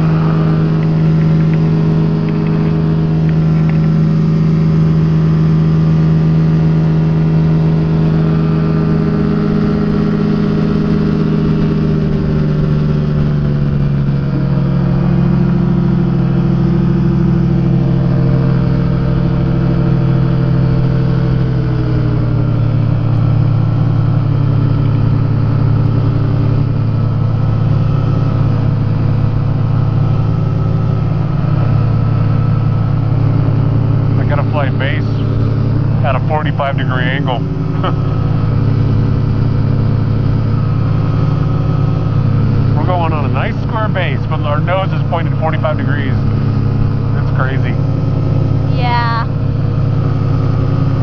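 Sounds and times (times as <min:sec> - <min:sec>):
two-stroke aircraft engine: 0:00.0 - 0:51.0.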